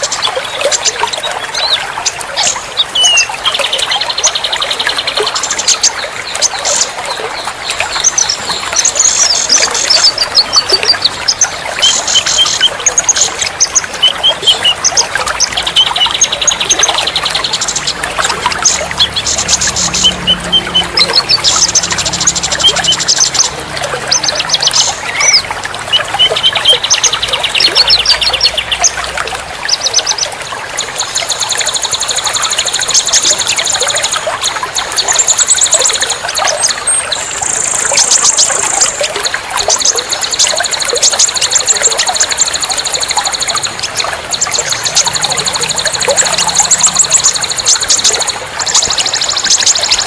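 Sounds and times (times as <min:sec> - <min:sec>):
running water trickling: 0:00.0 - 0:50.0
songbirds chirping and trilling: 0:00.0 - 0:50.0.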